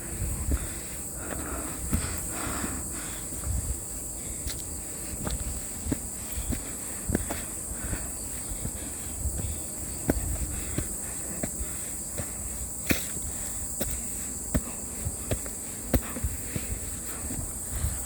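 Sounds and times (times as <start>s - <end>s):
footsteps crunching on trail: 0.0s - 18.0s
insect chirring: 0.0s - 18.0s.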